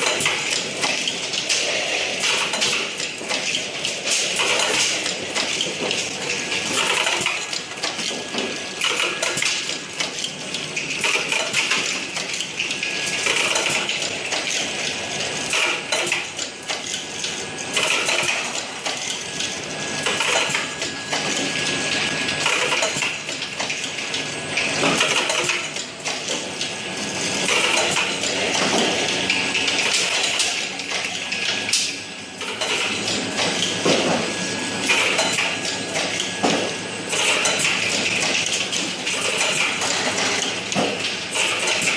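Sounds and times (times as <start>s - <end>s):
plastic parts clattering on machine: 0.0s - 24.2s, 27.2s - 41.9s.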